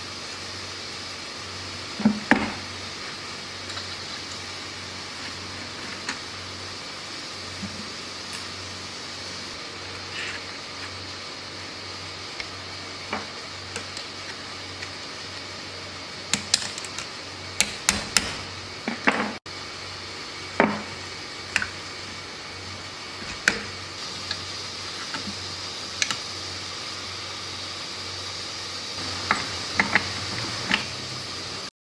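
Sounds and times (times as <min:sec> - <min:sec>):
steady background hum: 0:00.0 - 0:31.7.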